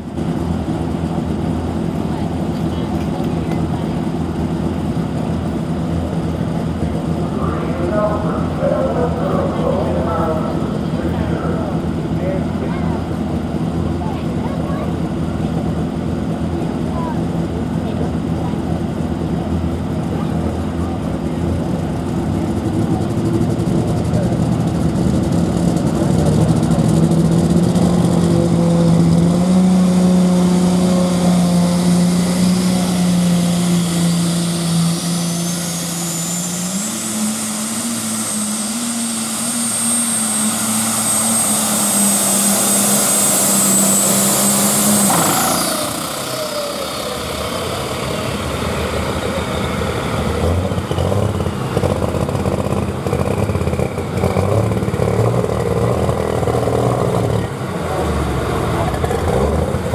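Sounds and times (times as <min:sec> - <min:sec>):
diesel tractor engine: 0:00.0 - 0:59.9
high turbo whine: 0:00.0 - 0:59.9.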